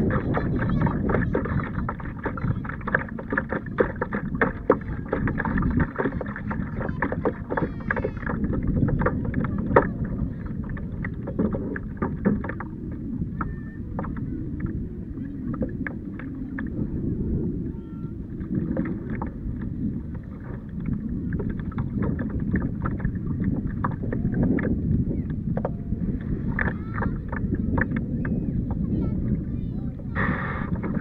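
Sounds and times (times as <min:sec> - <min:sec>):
water splashing against kayak hull: 0:00.0 - 0:31.0
wind rumble on microphone: 0:00.0 - 0:31.0.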